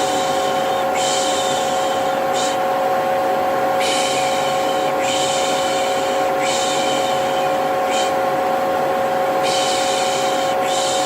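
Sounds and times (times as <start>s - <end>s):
vacuum cleaner whine: 0.0s - 11.0s.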